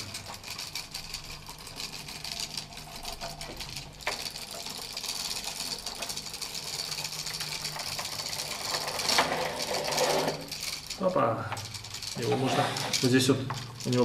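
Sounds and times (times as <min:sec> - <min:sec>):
clatter of wooden gears: 0:00.0 - 0:14.0.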